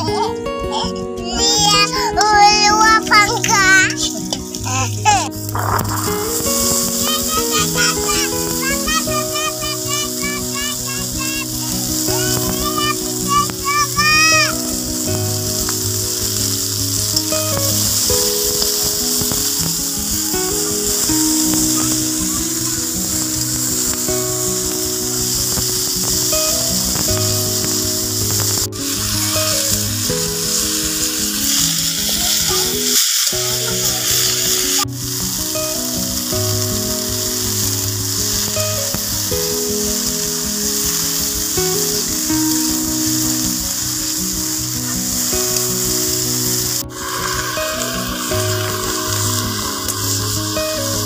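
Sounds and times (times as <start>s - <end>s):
instrumental background music: 0.0s - 51.0s
fruit sizzling in frying pan: 0.1s - 51.0s.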